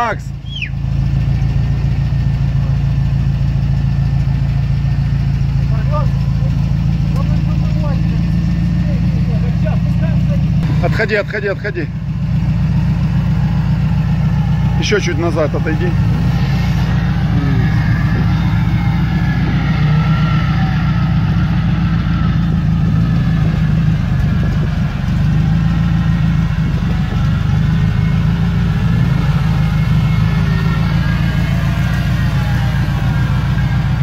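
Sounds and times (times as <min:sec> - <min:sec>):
engine running at low revs: 0:00.0 - 0:34.0.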